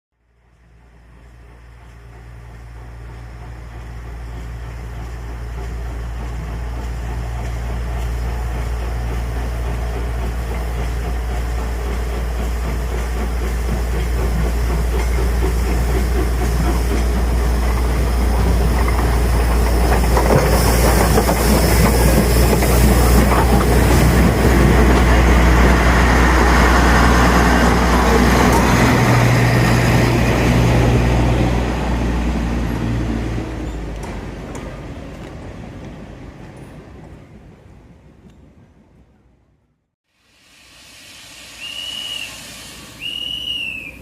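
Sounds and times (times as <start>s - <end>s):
diesel locomotive engine drone: 0.2s - 44.0s
wheels on rails: 0.4s - 38.6s, 41.2s - 44.0s.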